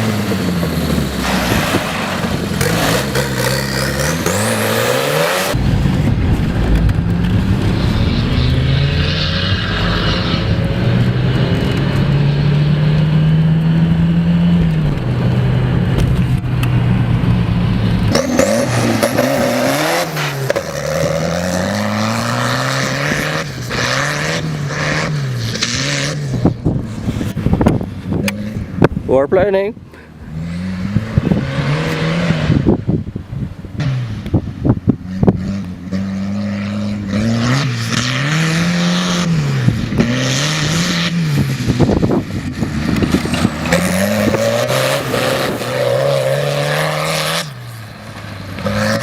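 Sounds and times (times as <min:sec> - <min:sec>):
tractor engine revving: 0:00.0 - 0:29.5, 0:35.1 - 0:49.0.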